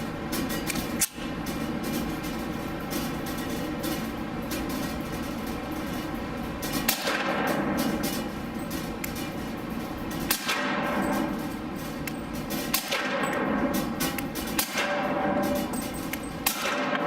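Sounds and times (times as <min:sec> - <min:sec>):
hvac hum: 0:00.0 - 0:17.0.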